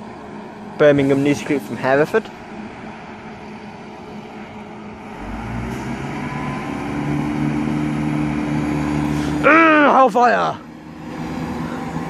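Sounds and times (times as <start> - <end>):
diesel train engine rumble: 0.0 - 12.0.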